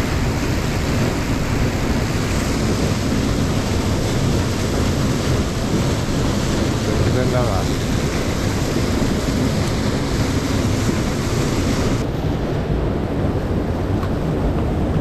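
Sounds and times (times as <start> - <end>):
mountain stream rushing: 0.0 - 14.4.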